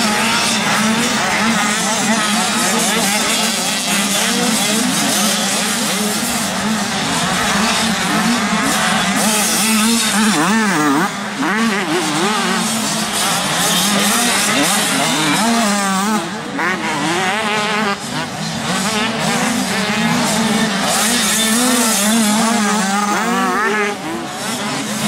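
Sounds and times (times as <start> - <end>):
motocross bikes racing: 0.0 - 25.0.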